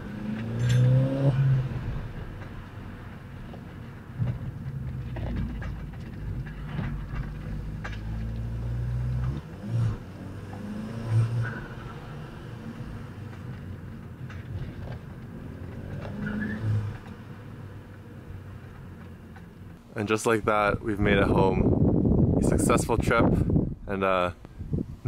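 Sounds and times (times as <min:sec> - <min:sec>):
car engine droning: 0:00.0 - 0:22.3.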